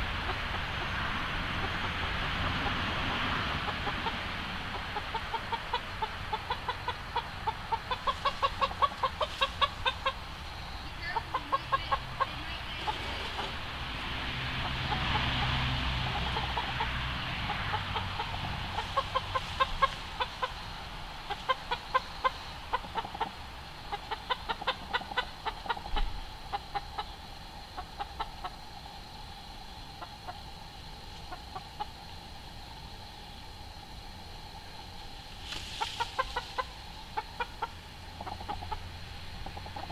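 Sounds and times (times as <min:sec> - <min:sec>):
hens clucking softly: 0:00.0 - 0:39.9.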